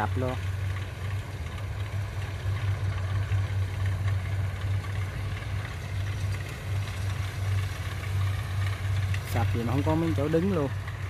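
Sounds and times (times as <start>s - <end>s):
combine harvester engine droning: 0.0s - 11.0s
whir of cutting gear: 0.0s - 11.0s.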